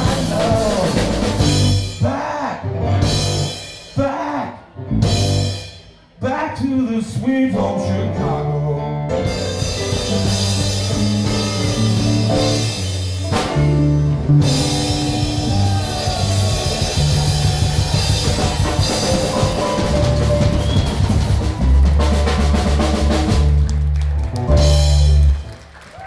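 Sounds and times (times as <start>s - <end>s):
blues band playing: 0.0s - 26.0s.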